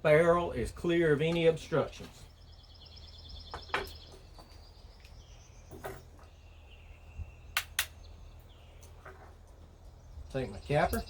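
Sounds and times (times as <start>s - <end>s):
birdsong trilling and whistling: 0.1s - 11.0s.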